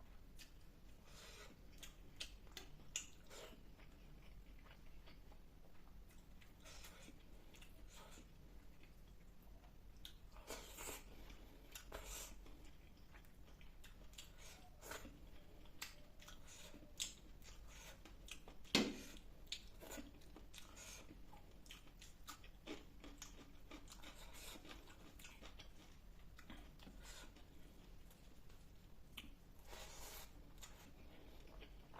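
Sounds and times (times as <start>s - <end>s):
person chewing with crunches: 0.0s - 31.9s.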